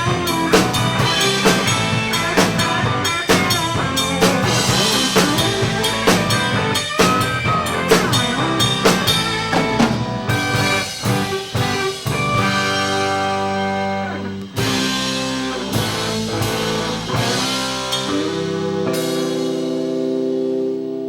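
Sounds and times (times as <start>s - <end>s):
drum kit beat: 0.0s - 20.7s.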